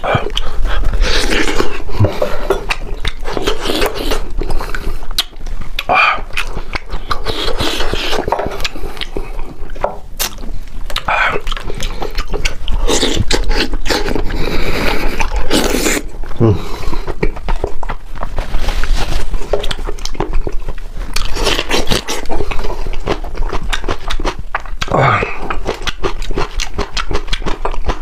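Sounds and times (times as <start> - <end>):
wet chewing and smacking: 0.0 - 28.0.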